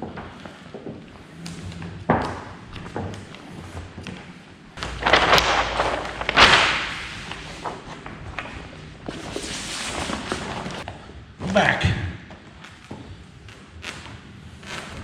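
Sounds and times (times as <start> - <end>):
rustling and scraping vinyl: 0.0 - 10.9, 12.5 - 15.0.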